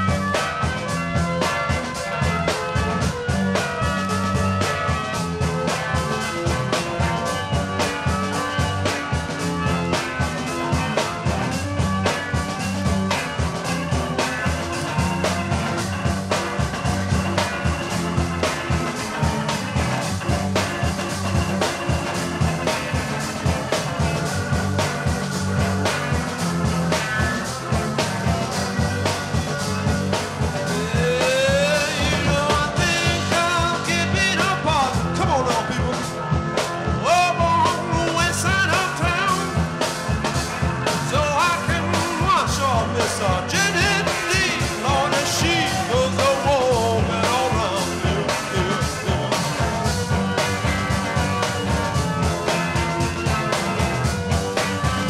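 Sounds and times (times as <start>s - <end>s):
bass guitar: 0.0s - 55.0s
drum kit beat: 0.0s - 55.0s.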